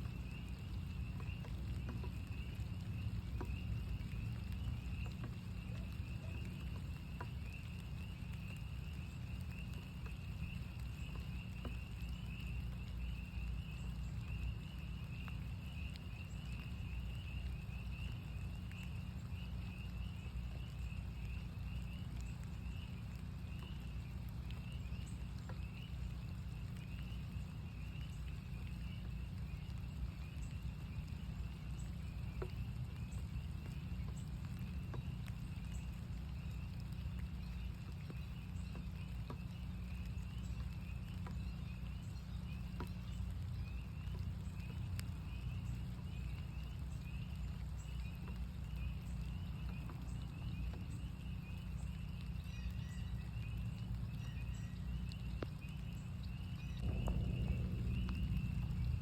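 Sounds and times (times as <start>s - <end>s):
light taps of rain: 0.0s - 59.0s
spring peepers chorus: 0.0s - 59.0s
steady low rumble: 0.0s - 59.0s.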